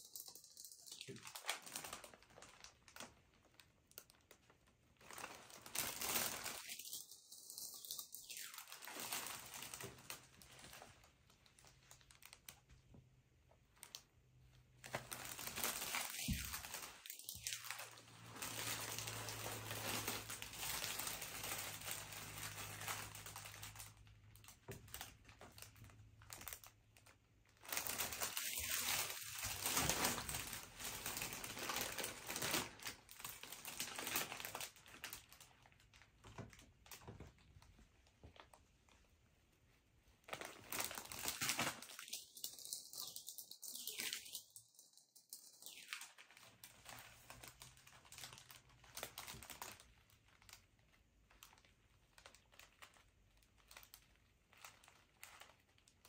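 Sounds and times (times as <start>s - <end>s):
wrapping paper crinkling: 0.0s - 39.0s, 40.2s - 56.0s.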